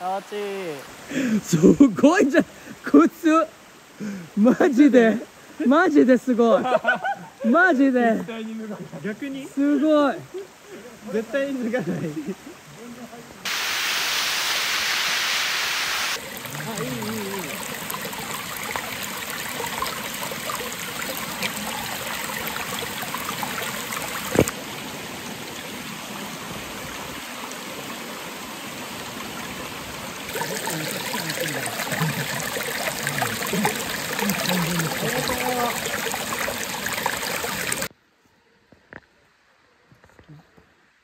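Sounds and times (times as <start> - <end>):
water rushing in stream: 0.0 - 6.3, 7.4 - 37.9.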